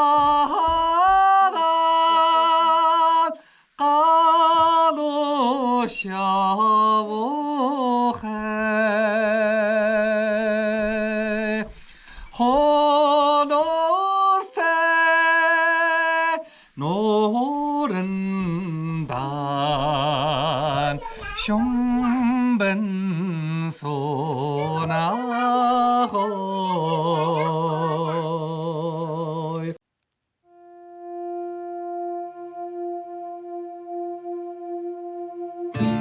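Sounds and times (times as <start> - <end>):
person singing with vibrato: 0.0 - 29.8.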